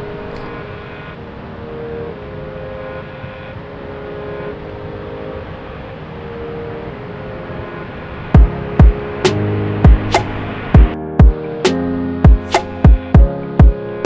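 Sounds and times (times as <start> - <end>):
whooshing ambient music: 0.0 - 14.0.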